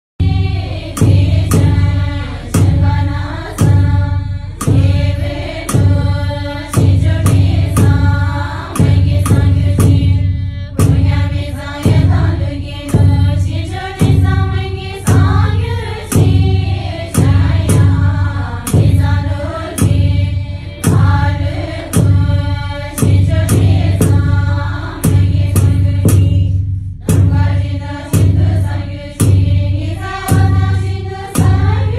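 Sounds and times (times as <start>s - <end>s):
sharp struck beat: 0.2s - 31.9s
women chanting prayers: 0.2s - 31.9s.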